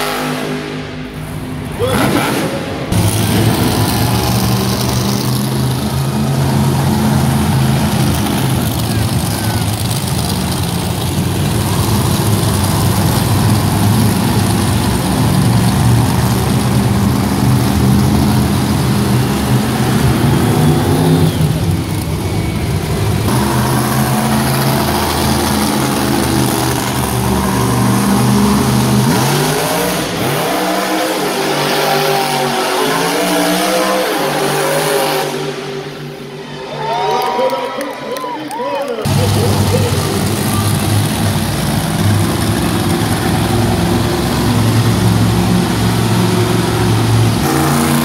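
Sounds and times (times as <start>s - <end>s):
monster truck engines revving: 0.0s - 48.0s.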